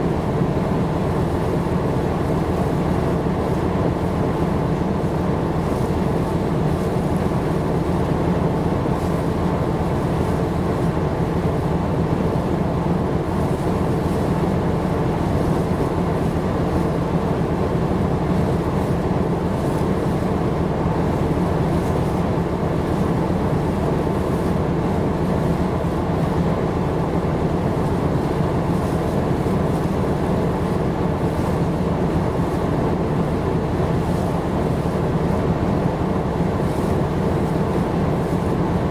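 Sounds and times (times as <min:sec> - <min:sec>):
ship engine drone: 0:00.0 - 0:38.9.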